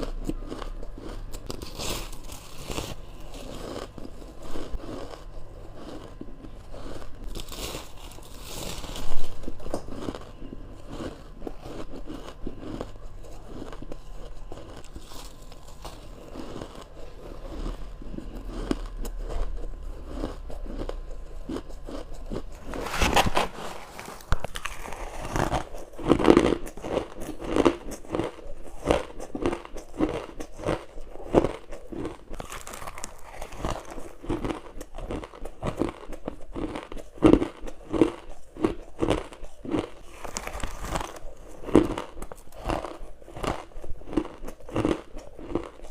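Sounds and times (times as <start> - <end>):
crunching ice: 0.0 - 45.9.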